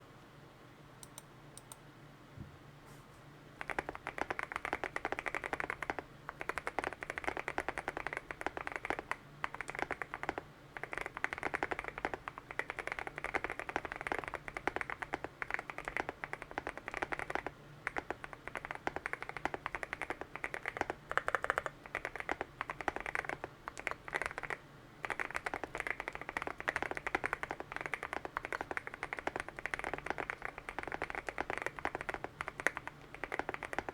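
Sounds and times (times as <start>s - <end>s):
fast mechanical keyboard typing: 3.6s - 33.9s.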